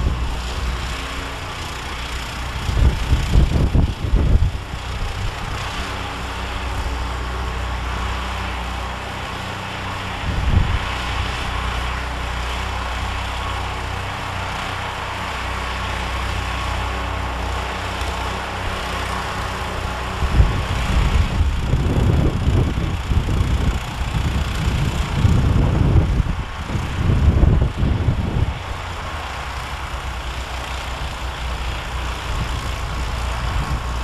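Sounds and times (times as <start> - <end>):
snowblower engine running: 0.0 - 34.0.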